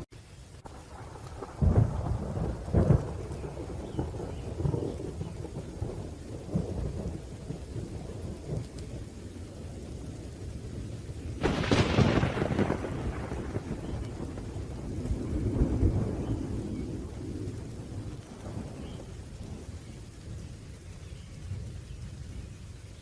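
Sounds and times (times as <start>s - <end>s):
low rolling thunder: 0.0s - 23.0s
steady rain: 0.0s - 23.0s
sharp thunderclap: 0.6s - 9.1s, 9.7s - 20.4s.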